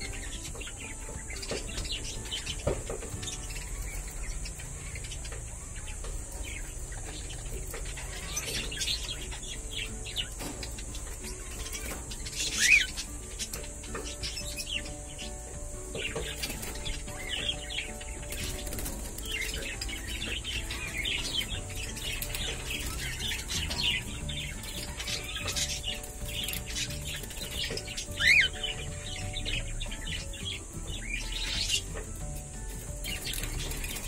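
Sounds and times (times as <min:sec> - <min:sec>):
budgerigars chirping and chattering: 0:00.0 - 0:34.0
loud falling bird chirp: 0:00.0 - 0:34.0.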